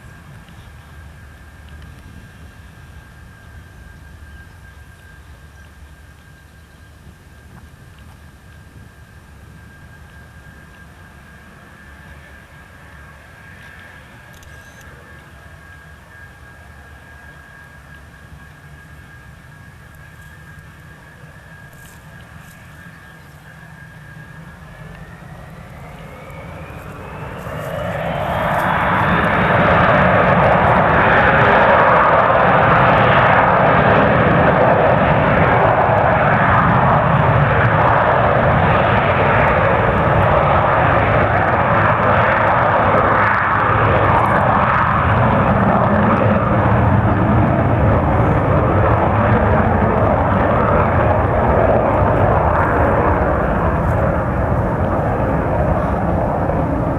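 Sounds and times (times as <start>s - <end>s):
jet engines spooling up: 0.0s - 56.9s.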